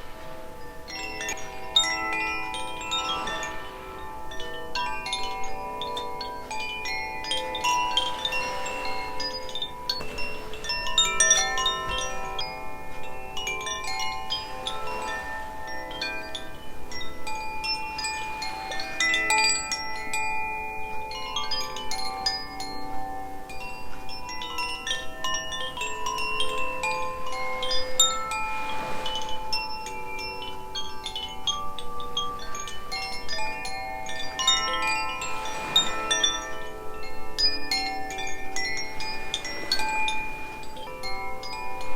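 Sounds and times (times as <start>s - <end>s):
wind chimes ringing: 0.0s - 41.9s.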